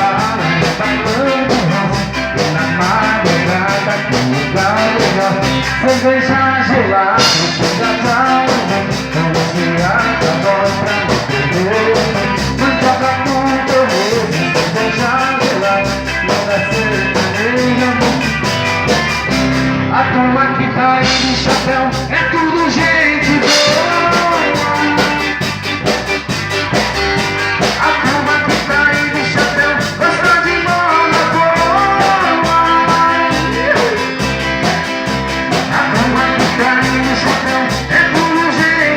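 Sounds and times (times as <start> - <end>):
instrumental band music: 0.0 - 38.9.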